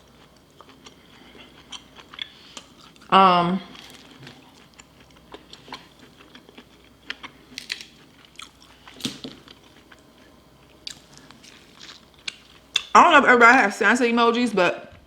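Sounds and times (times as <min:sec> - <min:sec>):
chewing and biting: 0:00.0 - 0:03.1, 0:03.7 - 0:12.9.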